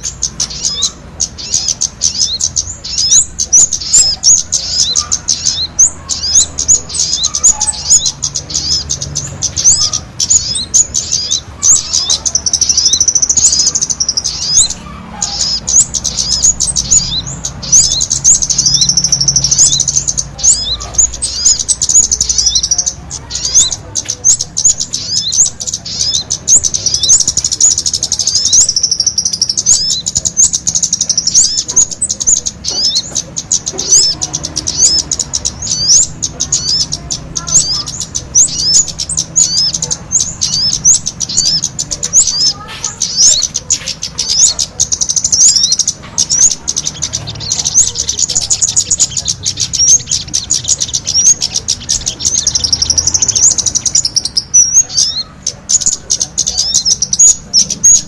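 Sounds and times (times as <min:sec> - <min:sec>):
songbirds chirping rapidly: 0:00.0 - 0:58.0.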